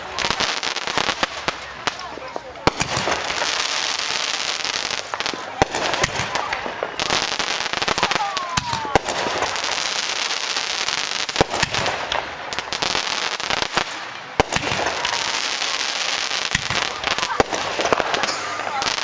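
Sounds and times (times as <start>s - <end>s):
firework bangs: 0.0s - 19.0s
firework crackle: 0.0s - 19.0s.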